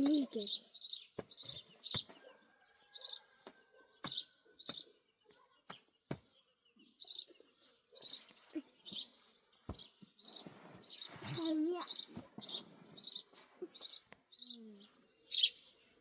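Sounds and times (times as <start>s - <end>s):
small bird chirping: 0.0s - 3.4s, 4.0s - 16.0s.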